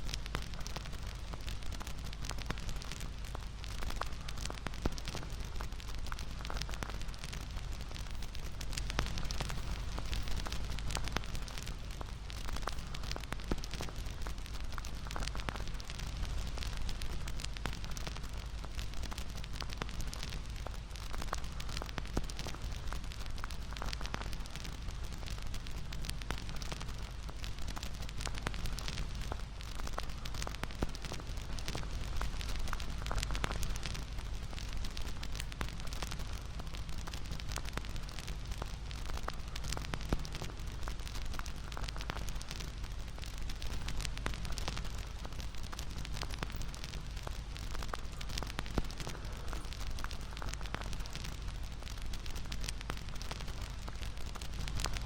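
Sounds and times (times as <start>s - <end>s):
bonfire pops and snaps: 0.0s - 55.0s
low rumble of burning: 0.0s - 55.0s.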